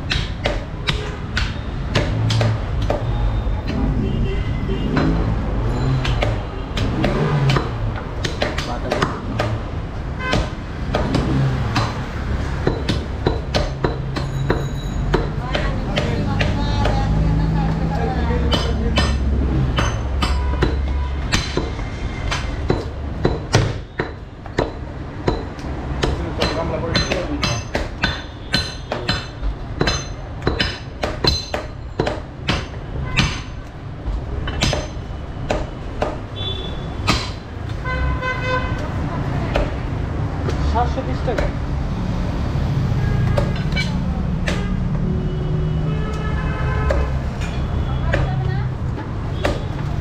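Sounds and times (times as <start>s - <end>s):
cleavers chopping meat and bone: 0.0s - 3.9s, 4.8s - 37.8s, 38.6s - 50.0s.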